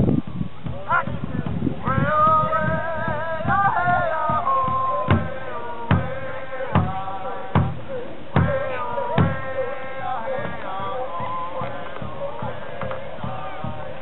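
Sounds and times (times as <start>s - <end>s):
group singing a chant: 1.8s - 14.0s
large hand drum beating: 2.2s - 7.8s, 8.4s - 14.0s.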